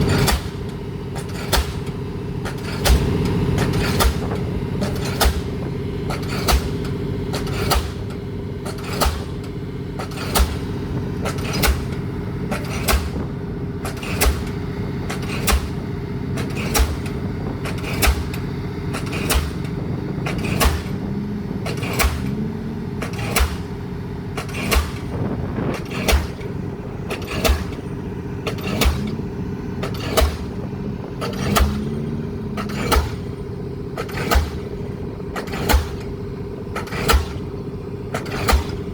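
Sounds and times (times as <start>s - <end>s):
engine humming: 0.0s - 38.9s
pile hammer blows: 0.1s - 36.1s.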